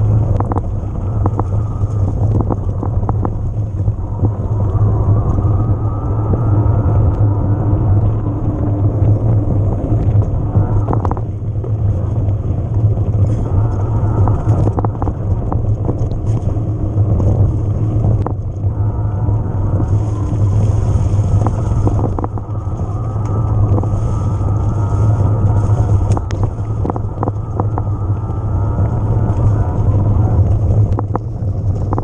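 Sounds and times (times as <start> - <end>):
bike tyres rattling over stones: 0.0 - 4.8, 8.5 - 18.7, 19.6 - 28.2, 28.8 - 32.0
wind buffeting microphone: 0.0 - 32.0.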